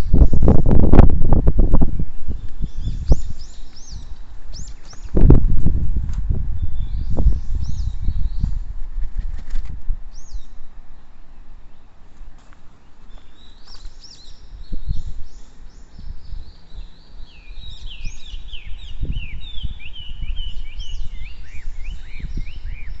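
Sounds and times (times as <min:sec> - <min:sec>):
songbirds chirping: 0:00.0 - 0:05.6, 0:06.2 - 0:23.0.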